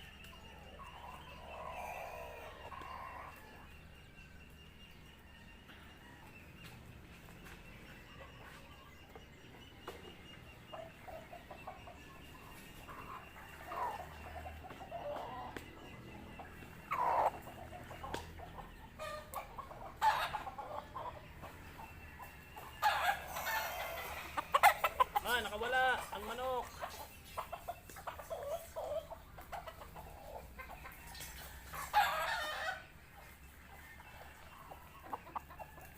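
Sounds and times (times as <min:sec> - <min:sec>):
chickens clucking and squawking: 0:00.0 - 0:35.9.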